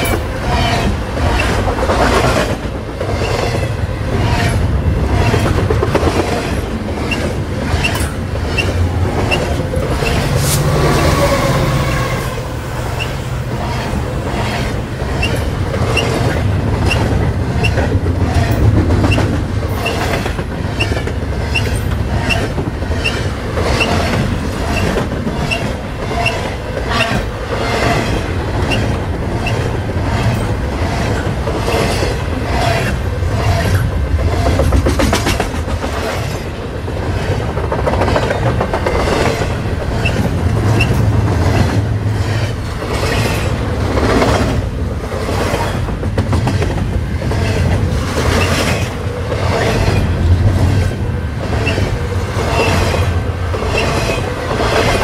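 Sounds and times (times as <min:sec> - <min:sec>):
freight train rumbling: 0:00.0 - 0:55.0
wheels clickety-clack over rail joints: 0:00.0 - 0:55.0.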